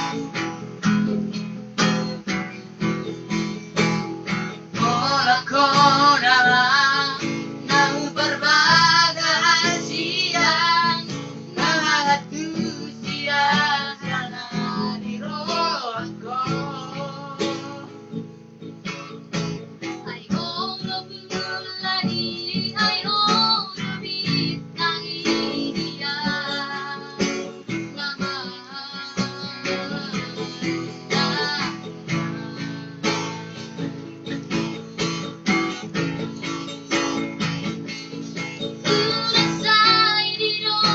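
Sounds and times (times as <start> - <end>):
strummed acoustic guitar: 0.0 - 40.9
person singing with vibrato: 4.7 - 18.2, 18.8 - 34.1, 36.4 - 40.9.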